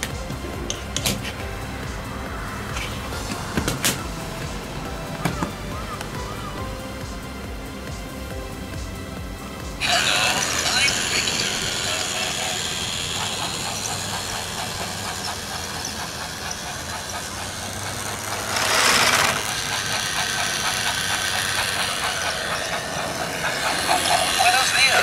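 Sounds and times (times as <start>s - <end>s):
toy train motor hum: 0.0s - 25.0s
toy train wheels ticking: 0.0s - 25.0s.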